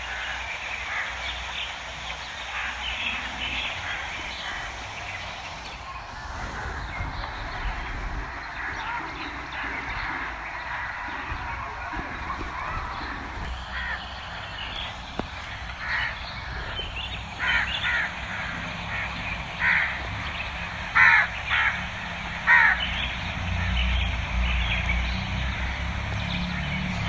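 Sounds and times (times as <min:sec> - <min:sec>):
background hiss: 0:00.0 - 0:27.0
harsh bird calls: 0:00.0 - 0:27.0.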